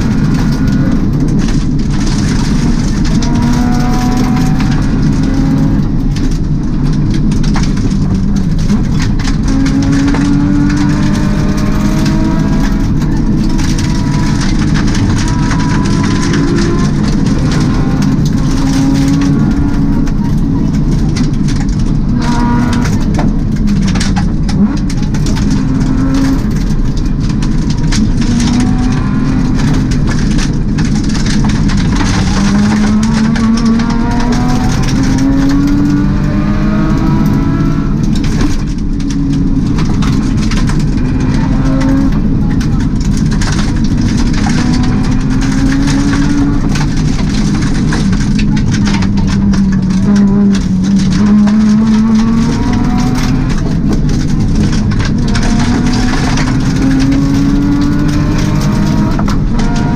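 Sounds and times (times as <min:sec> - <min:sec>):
rally car engine revving: 0:00.0 - 0:59.9
stones clicking against car: 0:00.0 - 0:59.9
tyres roaring on gravel: 0:00.0 - 0:59.9.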